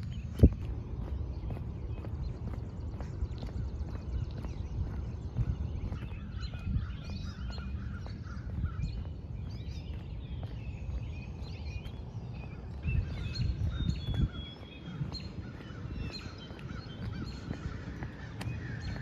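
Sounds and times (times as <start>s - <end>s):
footsteps on a paved path: 0.0s - 19.0s
songbirds chirping and singing: 0.0s - 19.0s.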